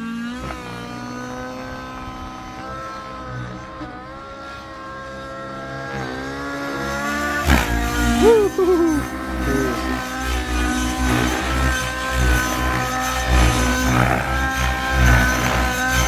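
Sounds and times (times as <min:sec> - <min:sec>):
rc helicopter engine and rotor: 0:00.0 - 0:16.0.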